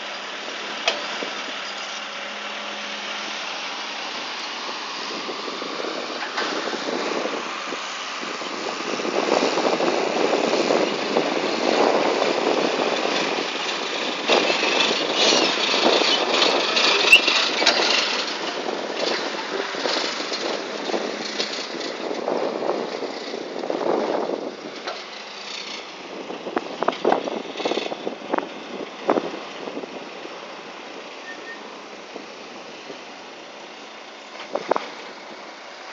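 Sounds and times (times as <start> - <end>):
bulldozer working: 0.0 - 35.9
dump truck engine: 0.0 - 35.9.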